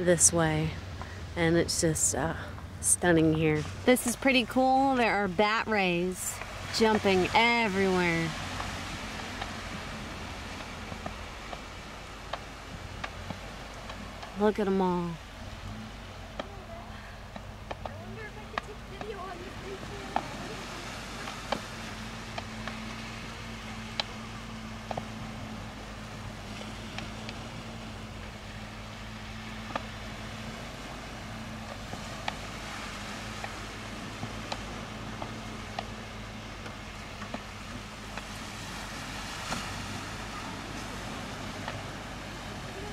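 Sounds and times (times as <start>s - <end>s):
low engine-like hum: 0.0s - 42.9s.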